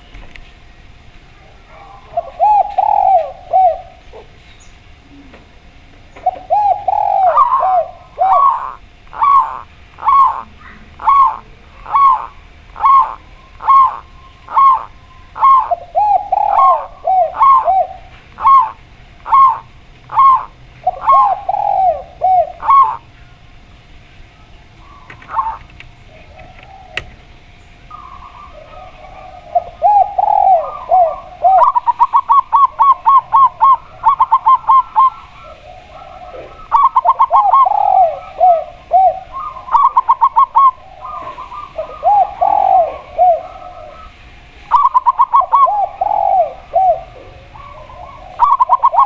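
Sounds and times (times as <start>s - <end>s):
doves cooing: 0.0s - 49.0s.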